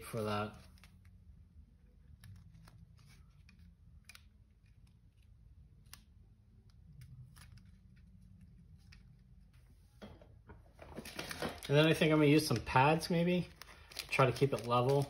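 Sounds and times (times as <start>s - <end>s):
tape clicking and crinkling: 0.1s - 10.1s, 10.8s - 15.0s.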